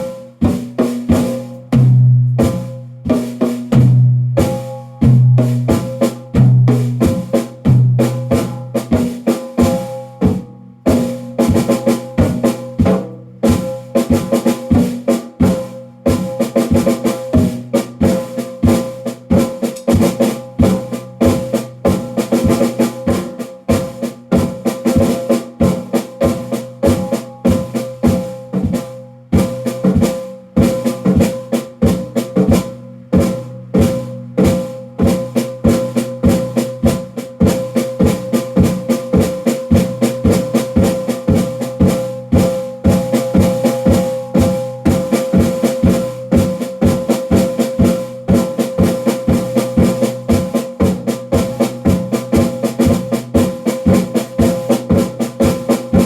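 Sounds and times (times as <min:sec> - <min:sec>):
hand drums playing fast rhythm: 0:00.0 - 0:56.0.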